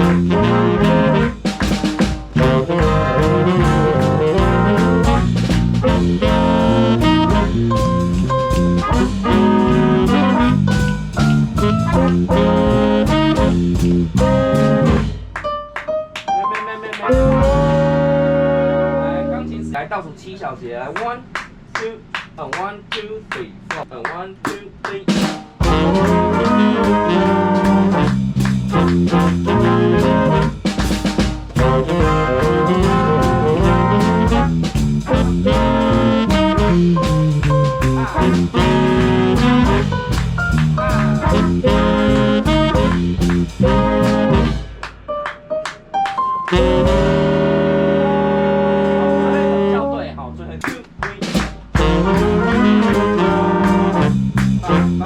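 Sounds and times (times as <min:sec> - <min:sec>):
brass section held chords: 0:00.0 - 0:19.8, 0:25.6 - 0:45.8, 0:46.4 - 0:55.0
swing big band playing: 0:00.0 - 0:19.8, 0:24.4 - 0:55.0.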